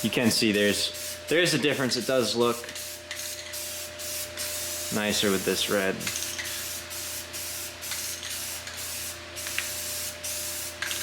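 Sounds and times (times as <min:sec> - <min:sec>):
spray paint hissing: 0:00.7 - 0:01.2, 0:02.0 - 0:11.0.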